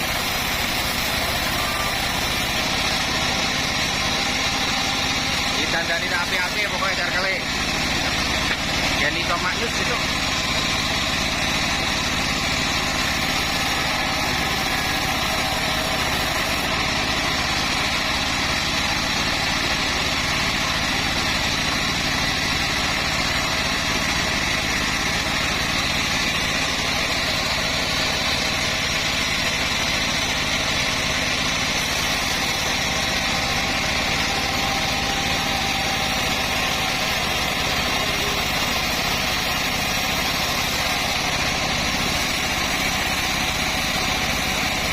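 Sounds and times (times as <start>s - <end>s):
bandsaw sawmill droning: 0.0s - 44.9s.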